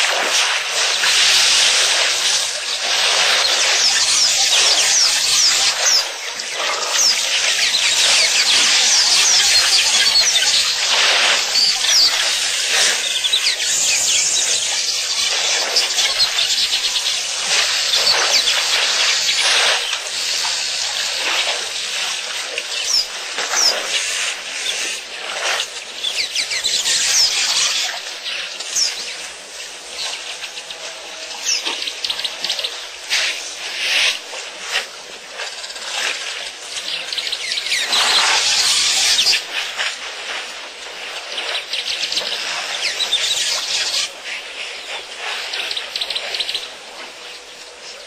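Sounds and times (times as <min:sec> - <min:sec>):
steady high hiss: 0:00.0 - 0:48.0.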